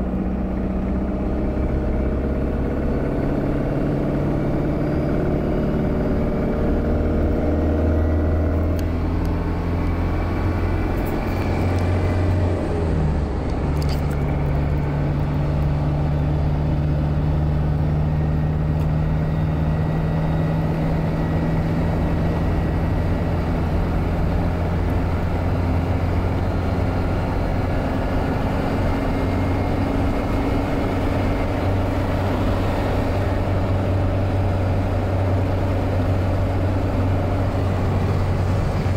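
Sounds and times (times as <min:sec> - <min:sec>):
vehicle engine drone: 0:00.0 - 0:38.9.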